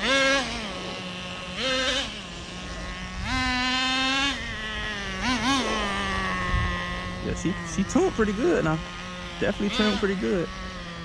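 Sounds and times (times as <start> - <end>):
small nitro engine idling: 0.0 - 11.0.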